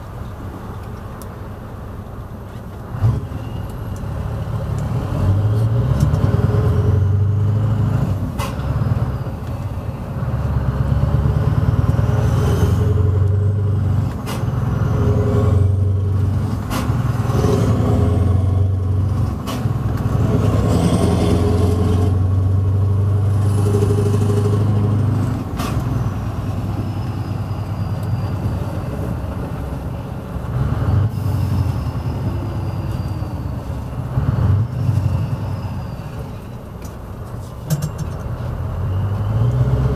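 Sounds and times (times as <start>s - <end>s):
truck engine with loud exhaust: 0.0s - 39.9s.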